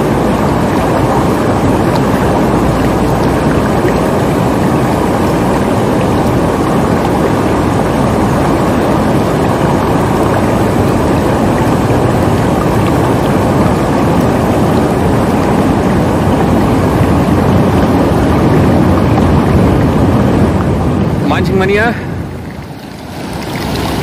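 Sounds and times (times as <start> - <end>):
river rushing over stones: 0.0 - 24.0.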